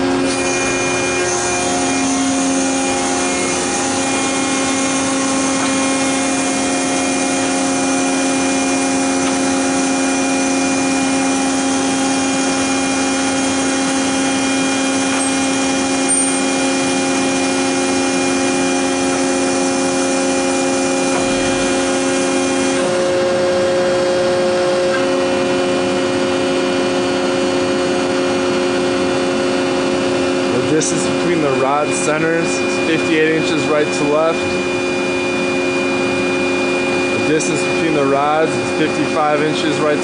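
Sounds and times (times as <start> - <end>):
hydraulic power unit humming: 0.0 - 40.0
steady pump whine: 0.0 - 40.0.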